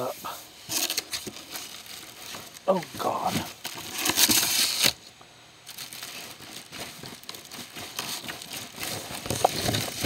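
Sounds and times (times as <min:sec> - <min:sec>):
plastic bags crinkling: 0:00.6 - 0:10.0.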